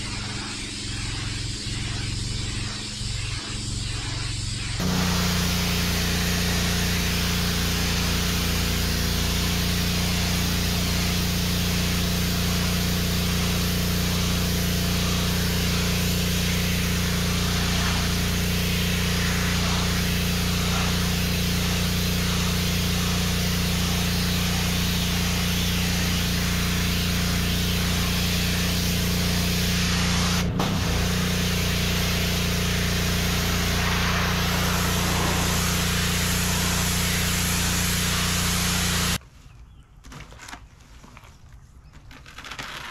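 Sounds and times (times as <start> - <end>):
water jet hissing on brick: 0.0 - 39.2
pressure washer motor hum: 4.8 - 39.2.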